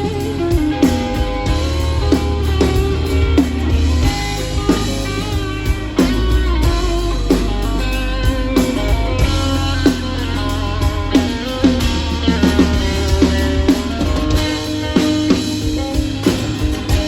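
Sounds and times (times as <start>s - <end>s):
electric guitar sliding notes: 0.0s - 17.0s
steady bass: 0.0s - 17.0s.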